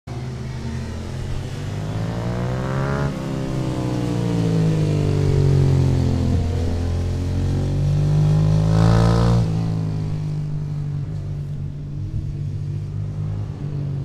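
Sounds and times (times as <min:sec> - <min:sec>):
racing motorcycle engine revving: 0:00.1 - 0:14.0.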